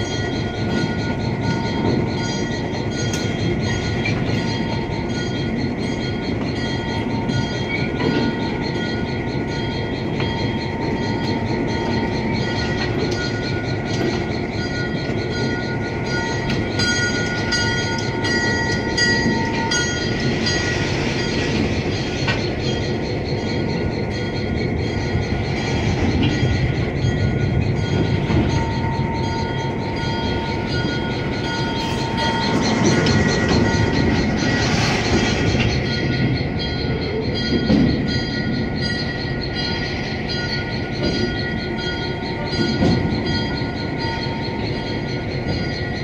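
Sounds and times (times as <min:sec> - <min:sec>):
locomotive engine under load: 0:00.0 - 0:46.0
train cars rumbling and rattling: 0:00.0 - 0:46.0.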